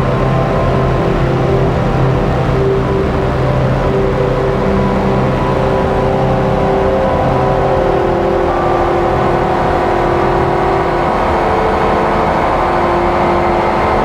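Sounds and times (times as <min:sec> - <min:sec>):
electronic synthesizer drone: 0:00.0 - 0:14.0.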